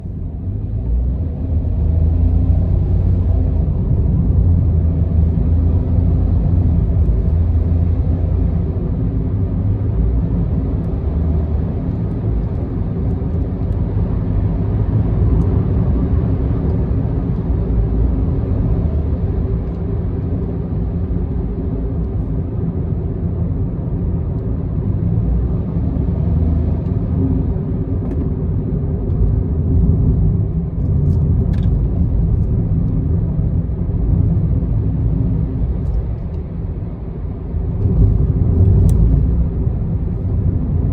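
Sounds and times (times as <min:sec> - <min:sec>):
road and engine rumble in car: 0:00.0 - 0:40.9.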